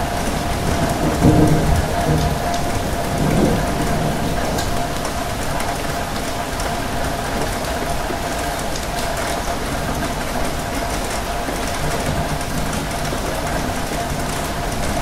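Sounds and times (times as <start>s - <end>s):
raindrop ticks: 0.0s - 15.0s
steady rain hiss: 0.0s - 15.0s.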